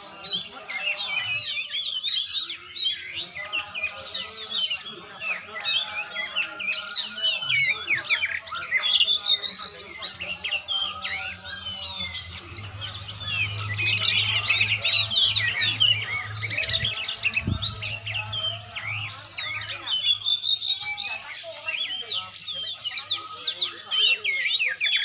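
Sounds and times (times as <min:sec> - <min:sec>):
bird singing varied song: 0:00.0 - 0:25.0.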